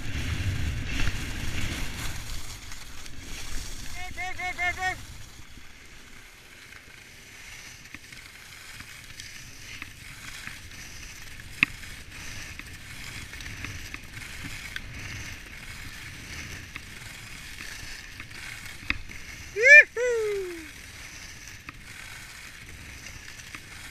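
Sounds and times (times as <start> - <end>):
skis scraping on packed snow: 0.0 - 23.9.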